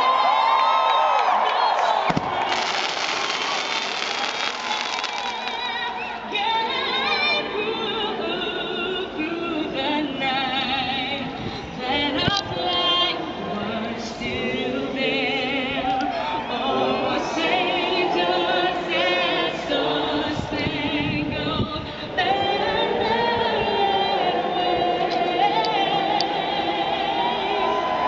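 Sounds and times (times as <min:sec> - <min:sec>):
operatic singing with vibrato: 0:02.4 - 0:28.0.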